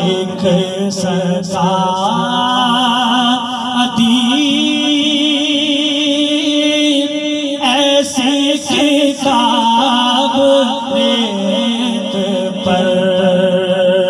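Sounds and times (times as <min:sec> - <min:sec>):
man singing through loudspeakers: 0:00.0 - 0:14.0.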